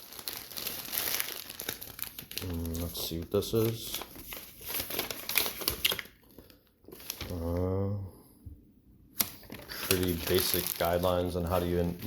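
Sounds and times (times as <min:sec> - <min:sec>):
packaging crinkling and rustling: 0:00.0 - 0:07.6, 0:09.2 - 0:12.0.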